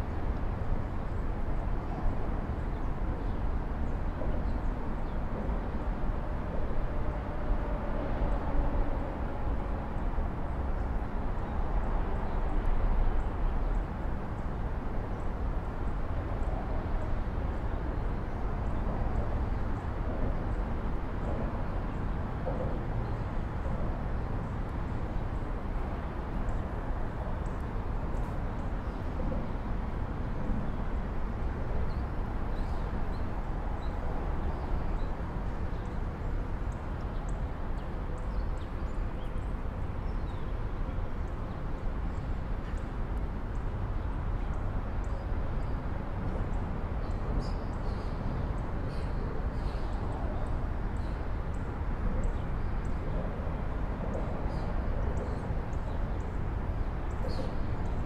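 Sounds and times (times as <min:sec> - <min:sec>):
distant city traffic rumble: 0:00.0 - 0:58.0.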